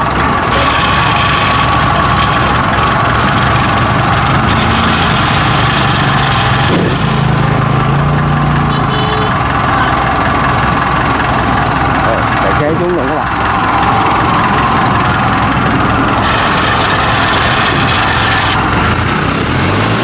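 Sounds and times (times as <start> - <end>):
tracked vehicle engine running: 0.0 - 20.0.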